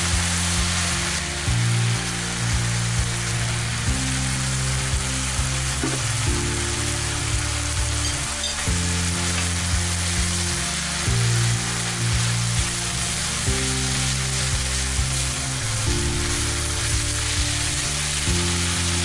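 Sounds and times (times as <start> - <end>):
background music low notes: 0.0 - 19.0
meat sizzling in a frying pan: 0.0 - 19.0.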